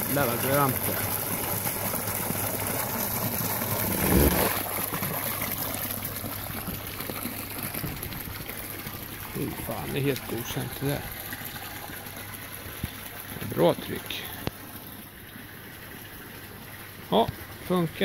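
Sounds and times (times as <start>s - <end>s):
water gushing and splashing: 0.0s - 17.0s.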